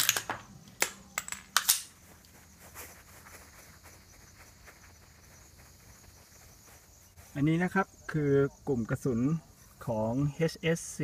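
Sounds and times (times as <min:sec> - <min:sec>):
faint high insect buzz: 0:00.0 - 0:11.0.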